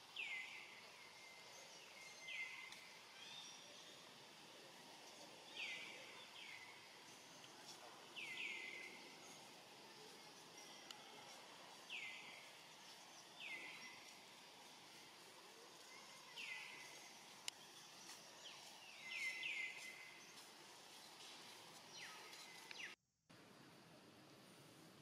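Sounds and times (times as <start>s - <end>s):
faint forest ambience: 0.0s - 25.0s.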